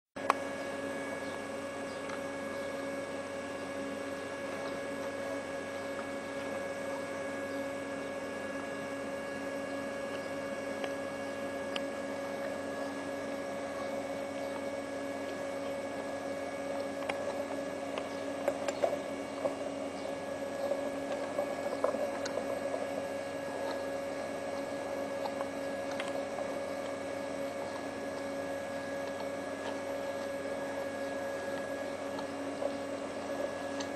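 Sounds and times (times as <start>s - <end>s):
electrical hum: 0.2s - 33.9s.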